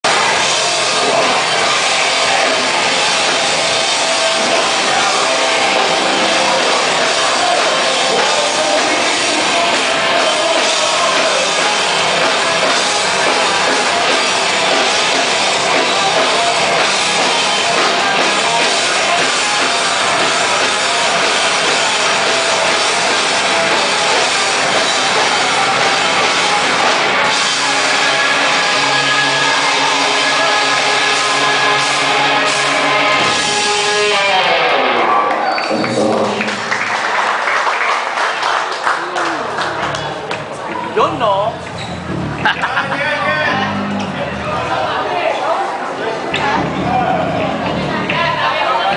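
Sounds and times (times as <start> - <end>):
loud rock music with drums: 0.0 - 36.7, 39.8 - 45.0, 46.3 - 48.9.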